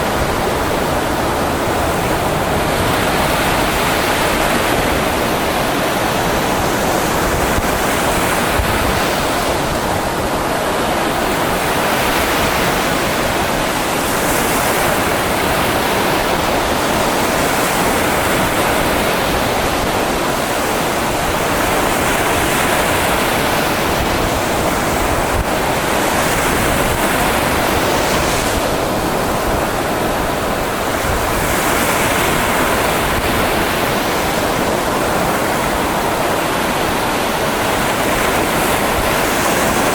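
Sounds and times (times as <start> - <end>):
waves washing onto shore: 0.0 - 39.9.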